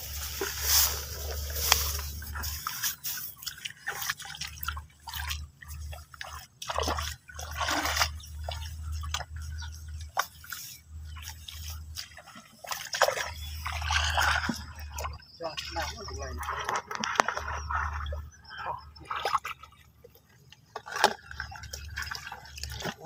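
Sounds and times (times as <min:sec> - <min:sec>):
shallow water splashing and dripping: 0:00.0 - 0:23.0.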